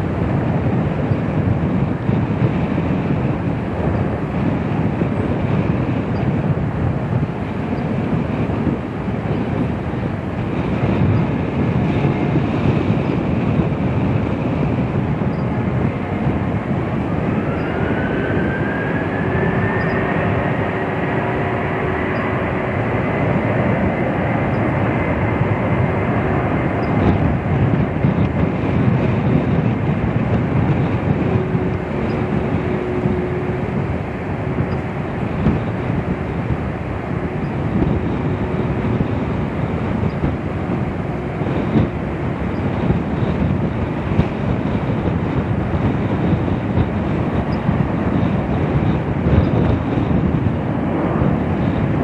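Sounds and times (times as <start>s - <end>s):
jet engine roar and whine: 0.0s - 52.0s.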